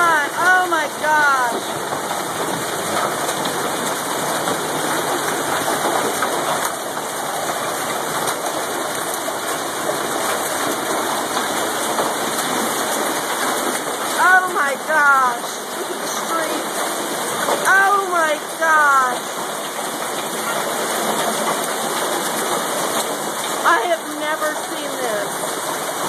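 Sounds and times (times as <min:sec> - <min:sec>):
hail and heavy rain clattering: 0:00.0 - 0:26.0.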